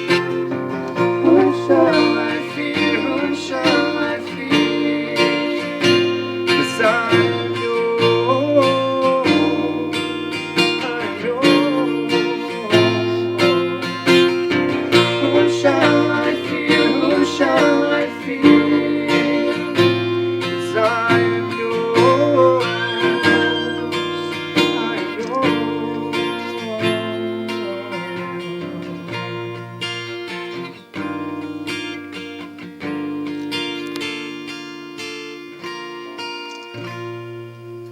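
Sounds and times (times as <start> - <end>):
acoustic guitar music: 0.0 - 37.9.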